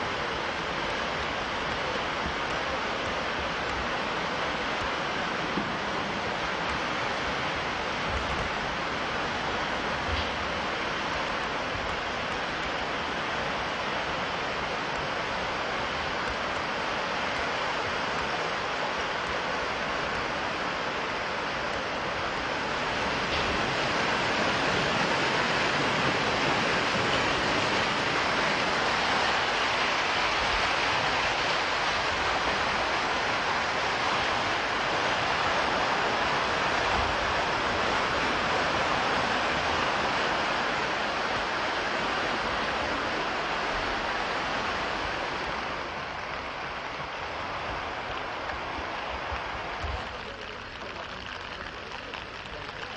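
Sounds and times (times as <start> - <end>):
floodwater rushing: 0.0 - 52.9.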